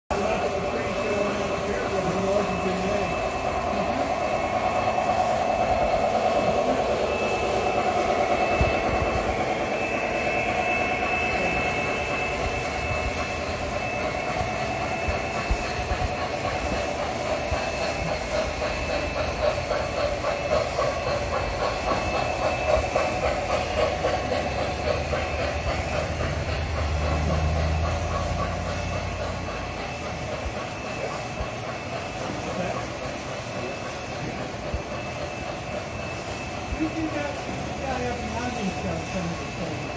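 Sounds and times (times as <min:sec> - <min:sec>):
model train wheels and motors: 0:00.1 - 0:39.9
rhythmic clicking: 0:00.1 - 0:39.9.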